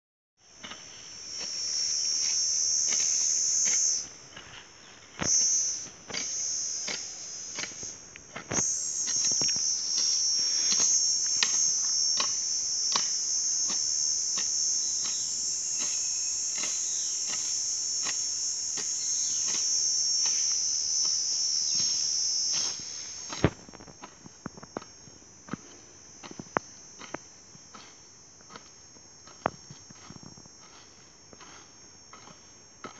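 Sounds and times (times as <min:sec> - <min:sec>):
insect high-pitched buzz: 0:00.4 - 0:32.9
hoe chopping grassy soil: 0:00.6 - 0:32.9.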